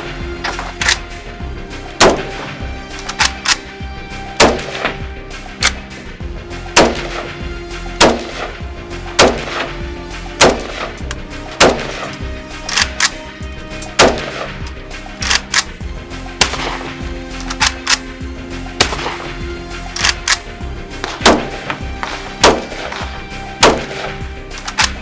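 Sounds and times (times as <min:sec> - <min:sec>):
music with held chords: 0:00.0 - 0:25.0.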